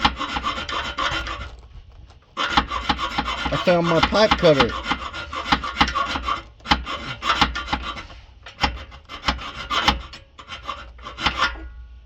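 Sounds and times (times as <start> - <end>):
pipe cutter scraping metal pipe: 0.0 - 11.7.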